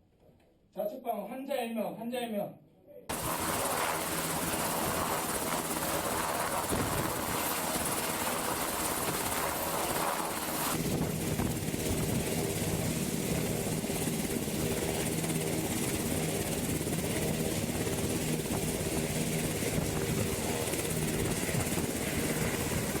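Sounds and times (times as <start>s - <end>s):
helicopter rotor and engine: 3.1s - 23.0s.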